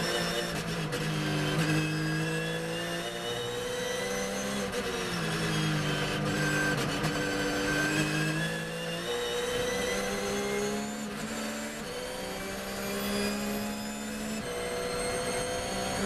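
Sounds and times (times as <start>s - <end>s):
race car engine under load: 0.0s - 16.0s.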